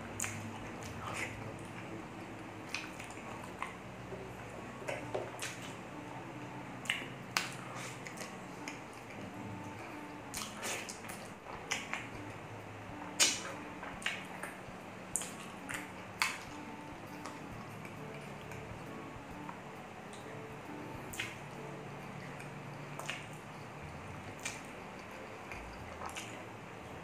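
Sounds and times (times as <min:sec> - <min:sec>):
low steady hum: 0:00.0 - 0:27.0
man chewing and smacking lips: 0:00.1 - 0:27.0.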